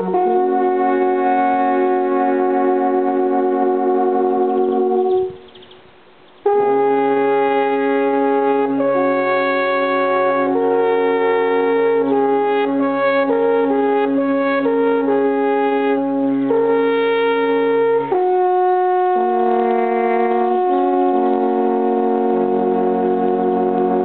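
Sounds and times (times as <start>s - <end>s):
alphorns playing in harmony: 0.0s - 5.8s, 6.4s - 24.0s.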